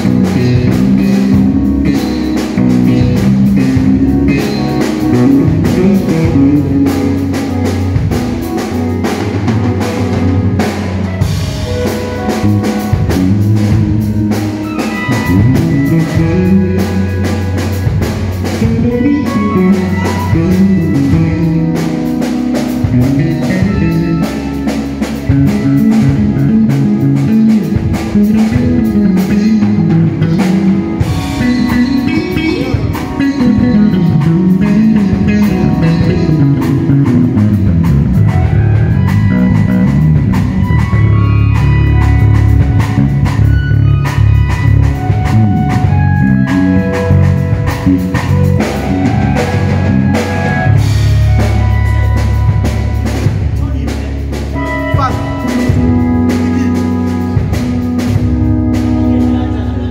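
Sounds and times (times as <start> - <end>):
drum kit: 0.0 - 59.9
electric bass guitar runs: 0.0 - 59.9
keyboard: 0.0 - 59.9.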